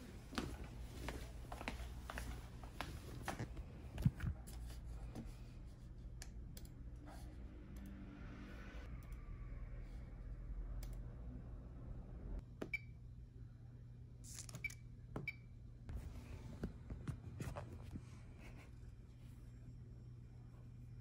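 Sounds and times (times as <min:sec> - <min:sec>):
low steady room hum: 0:00.0 - 0:21.0.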